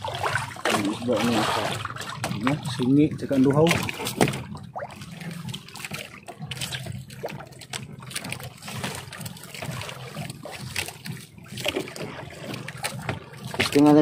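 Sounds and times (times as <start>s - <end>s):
low steady hum: 0.0s - 14.0s
water trickling and splashing: 0.0s - 14.0s.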